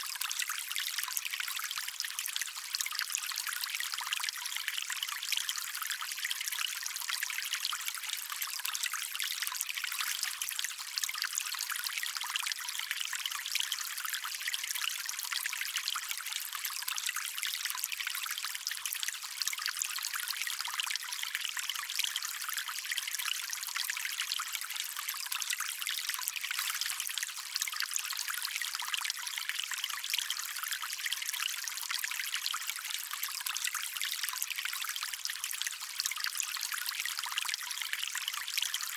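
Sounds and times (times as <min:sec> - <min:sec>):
stream water trickling over stones: 0:00.0 - 0:38.9.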